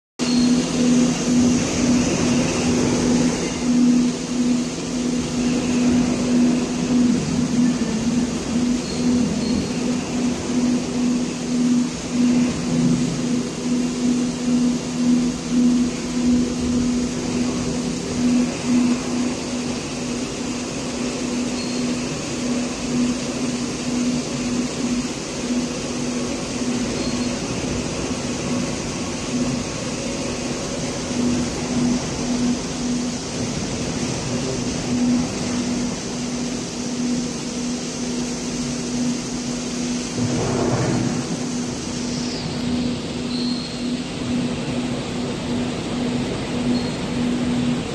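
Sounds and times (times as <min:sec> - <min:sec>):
machinery hiss: 0:00.2 - 0:47.9
pulsing machinery drone: 0:00.2 - 0:47.9.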